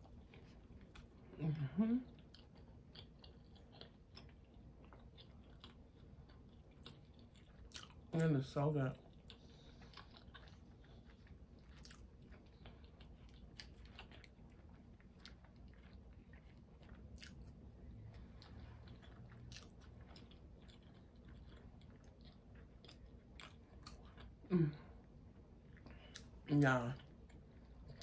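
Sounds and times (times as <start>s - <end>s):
chewing and biting food: 0.0s - 1.4s, 2.0s - 8.3s, 8.9s - 24.4s, 27.0s - 28.0s.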